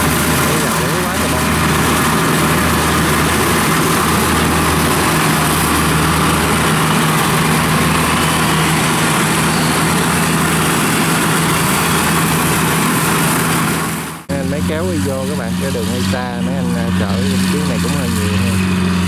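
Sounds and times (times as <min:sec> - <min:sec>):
low diesel engine hum: 0:00.0 - 0:19.0
machine rushing noise: 0:00.0 - 0:19.0.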